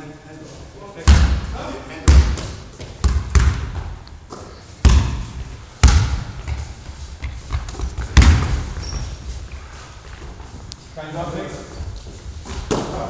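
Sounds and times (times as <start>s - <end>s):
basketball dribbling on hall floor: 1.0s - 13.0s.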